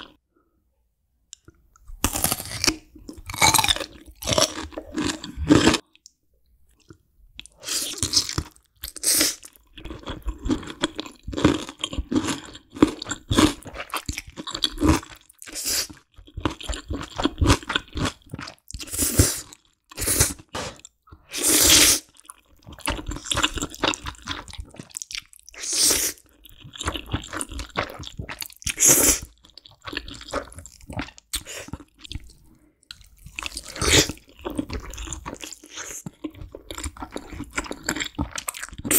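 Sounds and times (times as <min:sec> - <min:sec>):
crunching and chewing: 0:01.4 - 0:21.4, 0:22.0 - 0:38.9.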